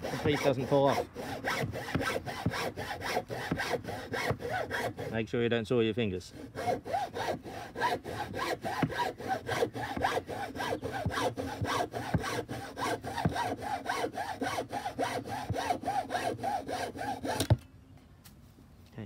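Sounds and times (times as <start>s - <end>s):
hacksaw cutting wood: 0.0s - 5.3s, 6.3s - 17.6s.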